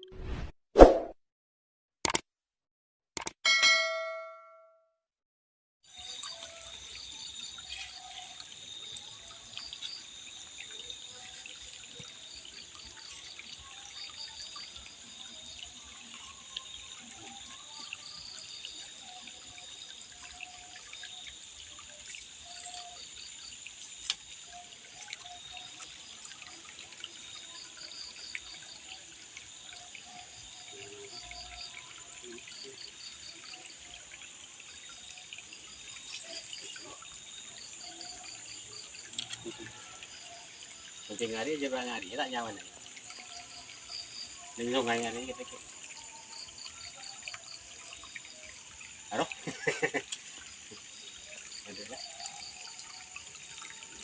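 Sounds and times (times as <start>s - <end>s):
water trickling and dripping: 5.9s - 54.0s.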